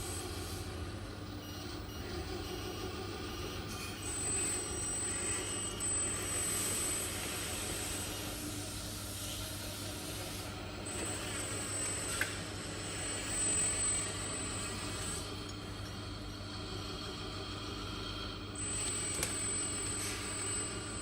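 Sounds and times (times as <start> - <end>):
thin high whine: 1.4 - 15.7, 18.3 - 21.0.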